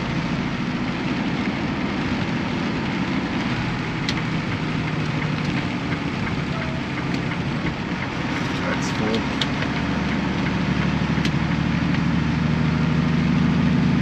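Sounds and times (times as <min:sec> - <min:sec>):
road noise: 0:00.0 - 0:14.0
truck engine hum: 0:00.0 - 0:14.0.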